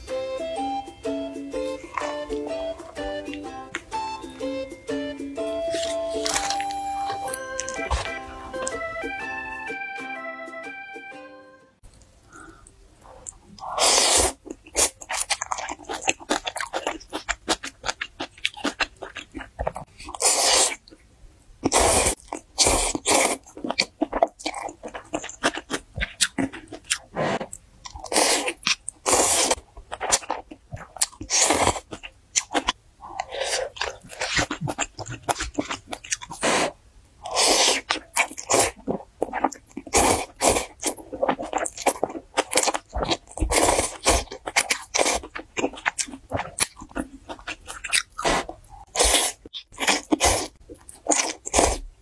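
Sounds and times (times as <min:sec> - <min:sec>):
person chewing and crunching food: 0:01.8 - 0:04.6, 0:05.4 - 0:08.9, 0:11.8 - 0:52.0.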